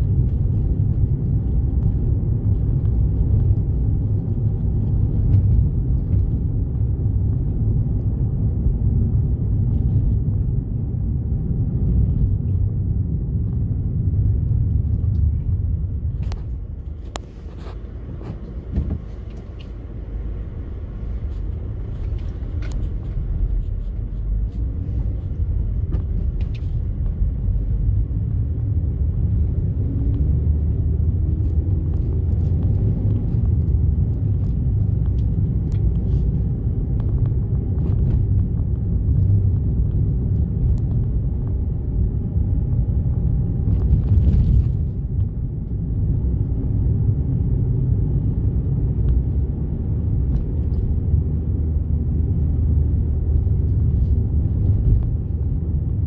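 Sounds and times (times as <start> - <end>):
car road rumble: 0.0 - 56.0.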